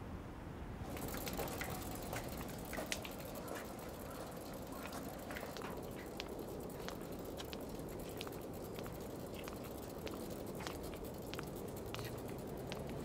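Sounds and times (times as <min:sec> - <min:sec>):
bicycle clicking while walked: 0:00.8 - 0:13.0.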